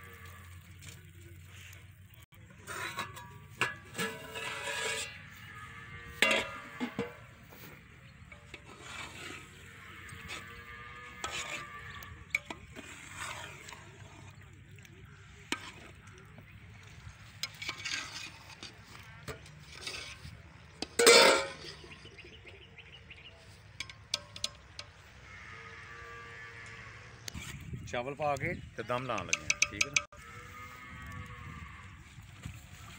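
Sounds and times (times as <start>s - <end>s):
metal ladle scraping a pot: 0.0s - 22.3s, 23.4s - 27.7s, 28.9s - 30.9s.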